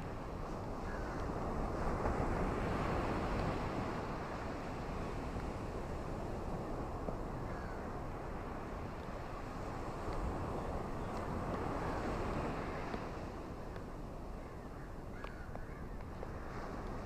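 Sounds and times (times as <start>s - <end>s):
ocean surf washing on shore: 0.0s - 14.4s, 16.0s - 17.0s
wind: 0.0s - 17.0s.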